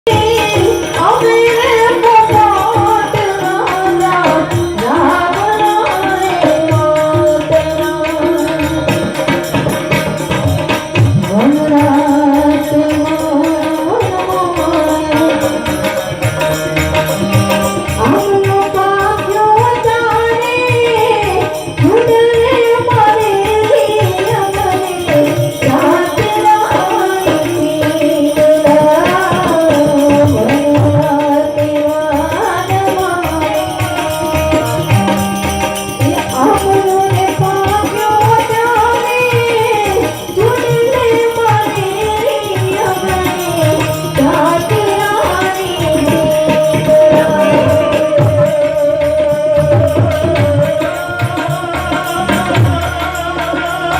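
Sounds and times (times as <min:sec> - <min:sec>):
hand-drum percussion: 0:00.0 - 0:53.9
person singing: 0:00.0 - 0:53.9.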